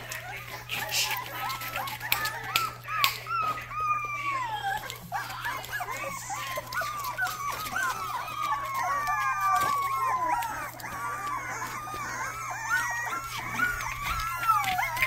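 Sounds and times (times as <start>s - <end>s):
puppies whining and yelping: 0.0s - 15.0s.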